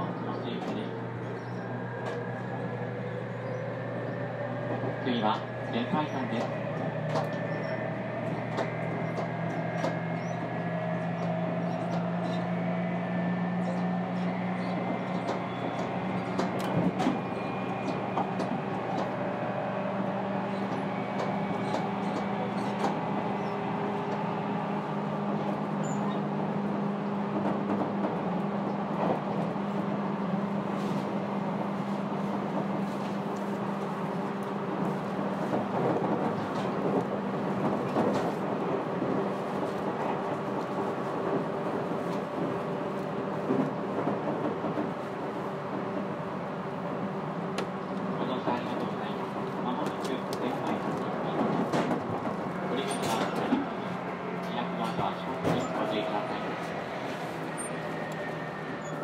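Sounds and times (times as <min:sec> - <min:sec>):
train motor hum: 0:00.0 - 0:59.0.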